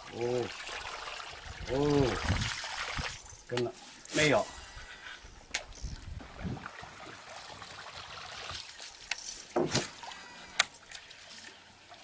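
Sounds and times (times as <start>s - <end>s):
water lapping around boat: 0.0s - 12.0s.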